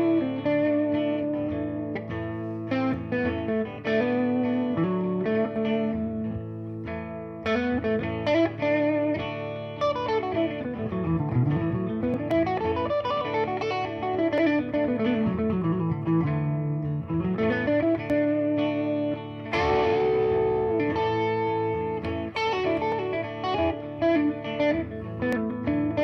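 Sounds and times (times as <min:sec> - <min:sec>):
electric guitar playing scale: 0:00.0 - 0:26.0.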